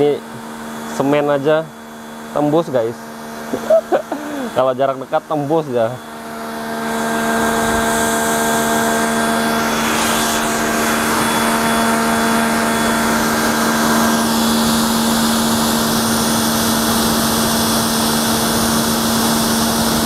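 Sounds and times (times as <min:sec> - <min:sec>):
pressure washer motor humming: 0:00.0 - 0:20.0.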